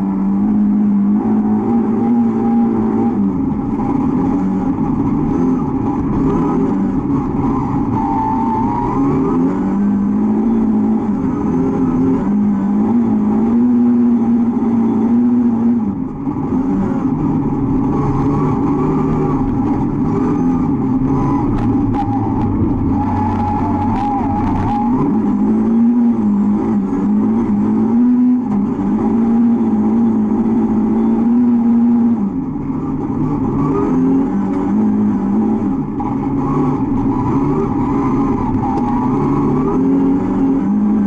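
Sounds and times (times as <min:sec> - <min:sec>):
car engine revving hard: 0:00.0 - 0:41.0.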